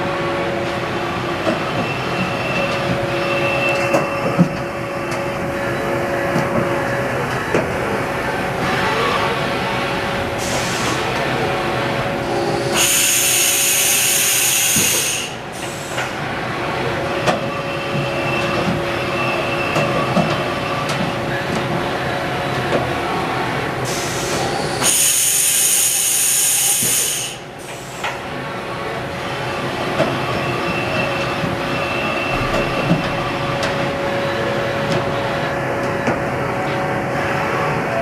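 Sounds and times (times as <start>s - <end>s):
machining center running: 0.0s - 38.0s.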